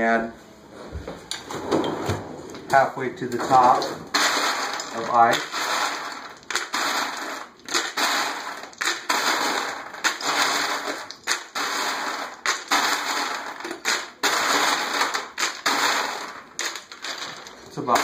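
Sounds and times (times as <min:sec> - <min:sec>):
ice cubes clattering into pitcher: 0:03.4 - 0:18.0.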